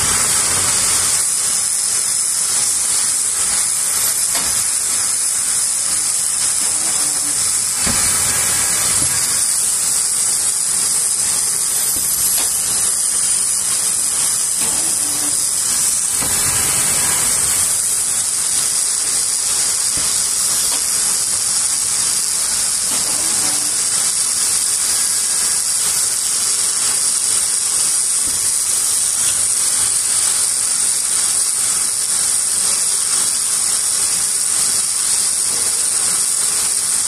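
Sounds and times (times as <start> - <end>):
machine high-pitched hiss: 0.0 - 37.0.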